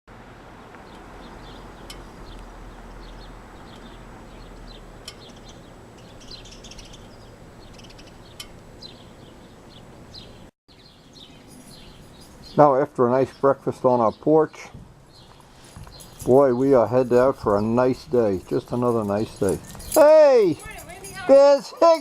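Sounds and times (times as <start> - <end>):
outdoor background hum: 0.1 - 21.5
small birds chirping: 0.5 - 22.0.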